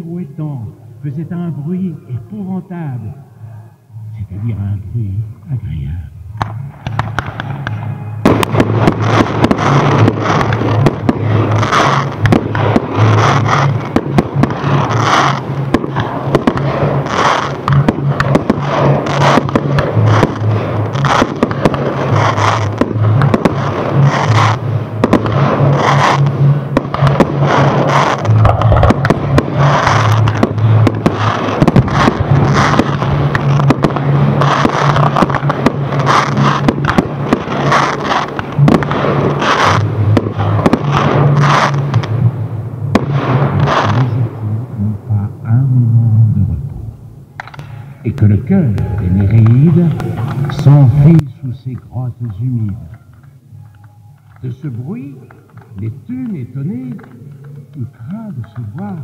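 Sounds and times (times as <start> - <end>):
fireworks bangs and crackling: 6.4 - 46.2, 47.4 - 59.0.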